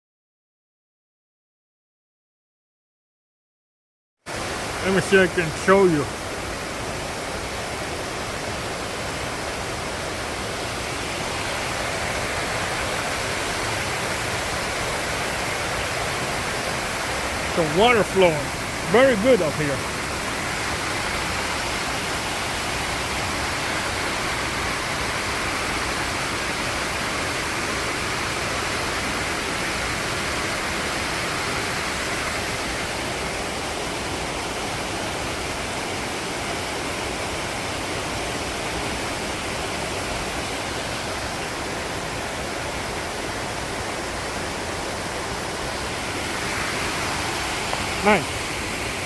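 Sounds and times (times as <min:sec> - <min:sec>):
stream rushing over rocks: 0:04.3 - 0:49.0.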